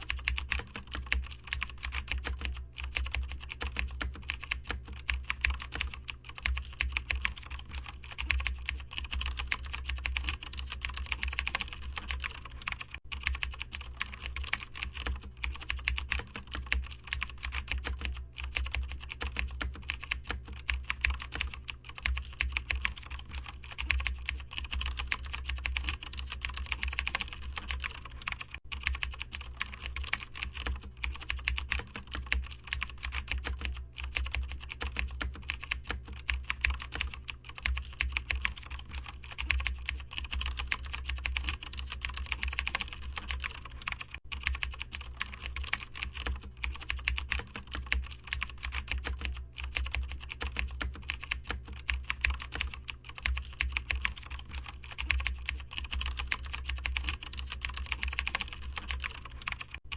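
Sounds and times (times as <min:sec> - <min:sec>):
typing on a keyboard: 0:00.0 - 0:59.9.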